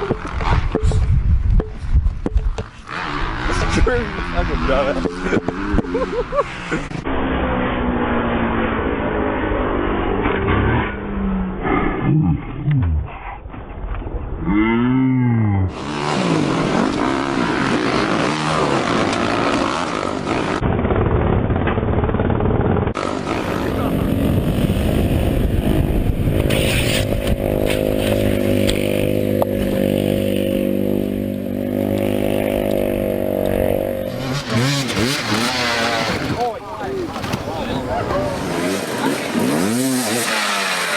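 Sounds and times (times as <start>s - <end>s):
dirt bike engines revving: 0.0s - 13.1s, 14.4s - 21.5s, 22.2s - 40.9s.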